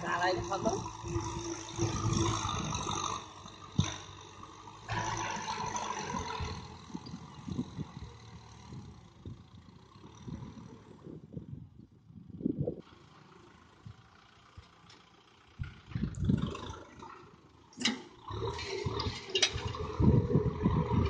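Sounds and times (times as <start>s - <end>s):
rotary tiller in dry soil: 0.0s - 11.8s, 12.8s - 21.0s
tractor diesel engine running: 0.0s - 21.0s.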